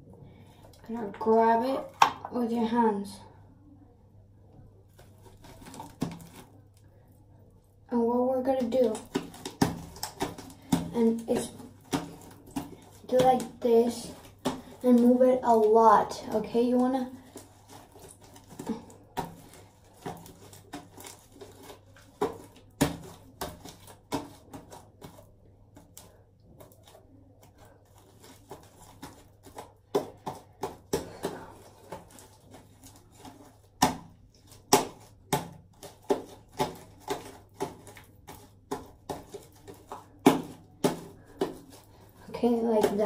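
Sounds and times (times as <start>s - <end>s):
slime slapping and squelching: 4.8s - 43.0s.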